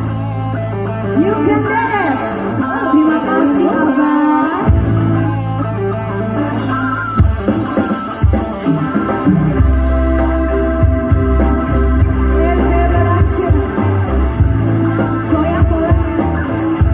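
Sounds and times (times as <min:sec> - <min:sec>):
heavy bass notes: 0:00.0 - 0:16.9
loud music with guitar and drums: 0:00.0 - 0:16.9.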